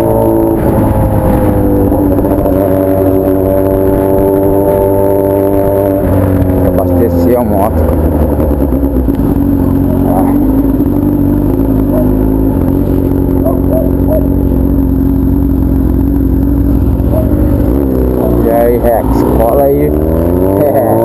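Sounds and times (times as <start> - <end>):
motorcycle engine through loud exhaust: 0.0 - 21.0.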